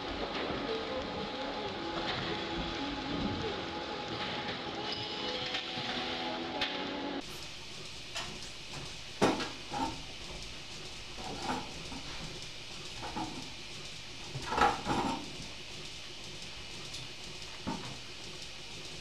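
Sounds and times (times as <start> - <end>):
steady hiss: 0.0 - 19.0
steady hum with even tones: 0.0 - 19.0.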